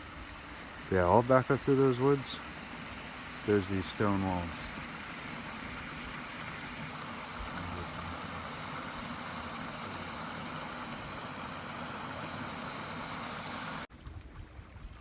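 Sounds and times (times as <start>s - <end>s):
creek flowing over stones: 0.0s - 15.0s.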